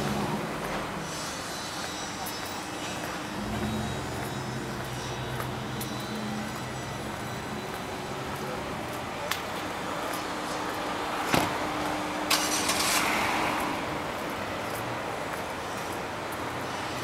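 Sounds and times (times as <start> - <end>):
steady road noise: 0.0 - 17.0
car passing: 2.8 - 17.0.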